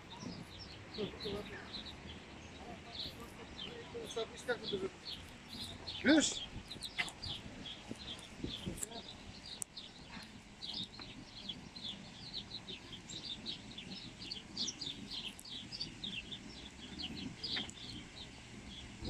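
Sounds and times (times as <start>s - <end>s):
low background murmur: 0.0s - 19.0s
small birds chirping: 0.0s - 19.0s.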